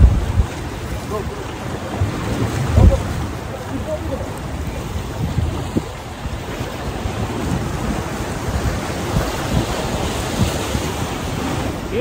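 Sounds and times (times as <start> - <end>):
sea waves: 0.0 - 12.0
wind buffeting microphone: 0.0 - 12.0.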